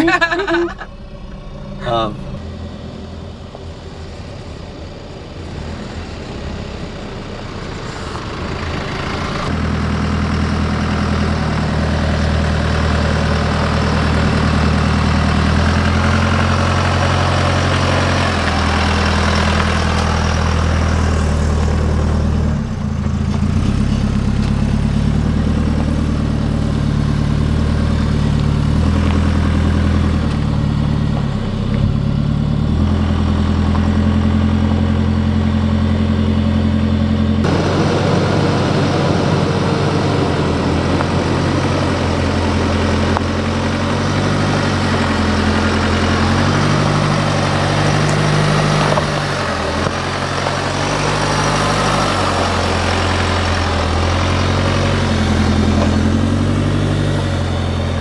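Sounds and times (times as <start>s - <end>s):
diesel engine running at low revs: 0.0s - 58.0s.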